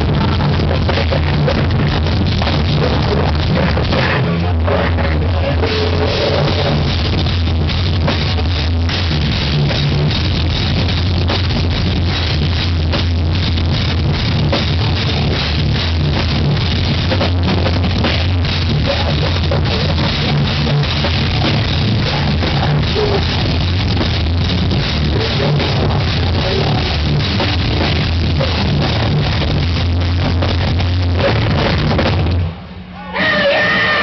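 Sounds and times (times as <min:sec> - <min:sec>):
fast pounding drums: 0:00.0 - 0:32.6
distorted guitars: 0:00.0 - 0:34.0
heavy bass: 0:00.0 - 0:34.0.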